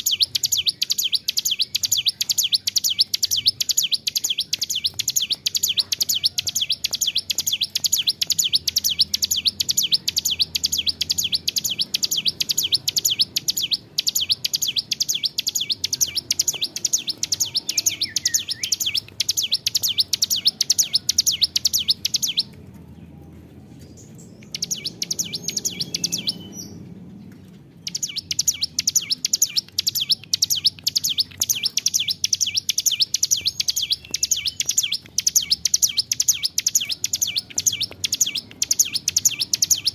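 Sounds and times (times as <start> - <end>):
bird singing rapid high notes: 0.0 - 22.5, 24.2 - 26.9, 27.7 - 39.9.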